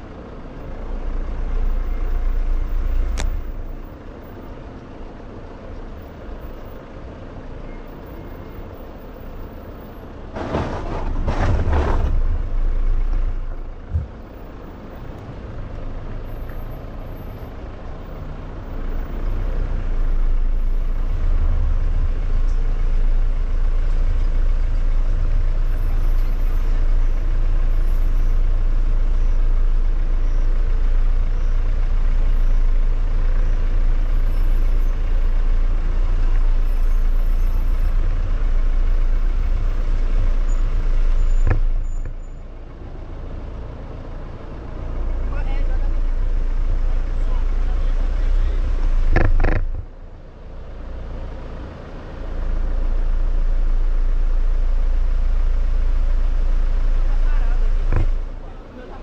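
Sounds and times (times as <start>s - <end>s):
vehicle engine low rumble: 0.0s - 59.0s.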